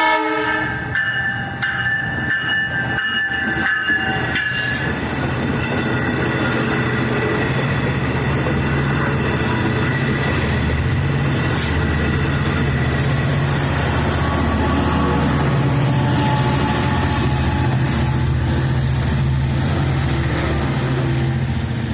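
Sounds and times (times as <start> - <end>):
diesel locomotive engine running: 4.0 - 21.9.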